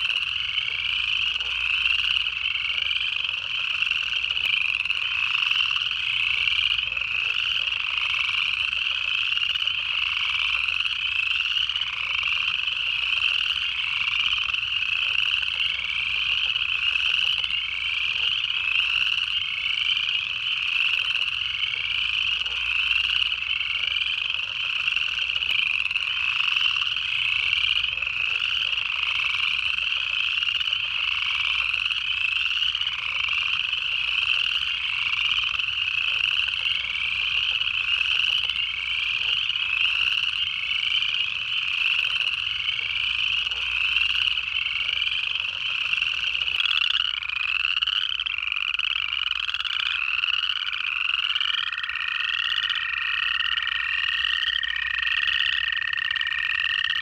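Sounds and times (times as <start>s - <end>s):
frogs trilling: 0.0s - 57.0s
high peeps of frogs: 0.0s - 57.0s.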